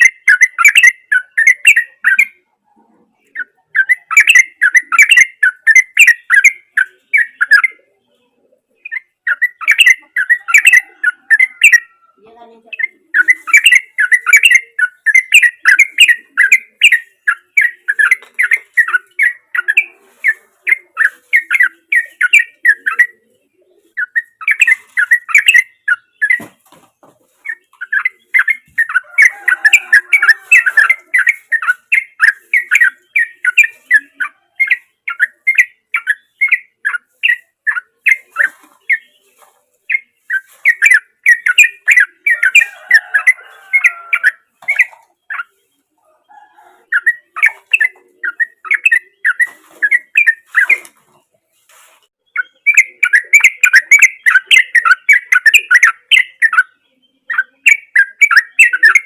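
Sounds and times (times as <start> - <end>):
bulbul chattering song: 0.0 - 59.0.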